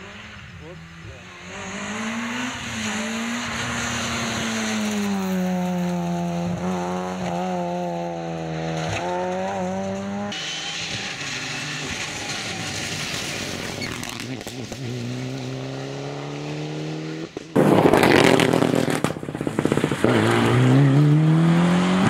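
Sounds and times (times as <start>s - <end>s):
distant rally car engine: 0.0s - 22.0s
rally car engine at high revs: 0.0s - 22.0s.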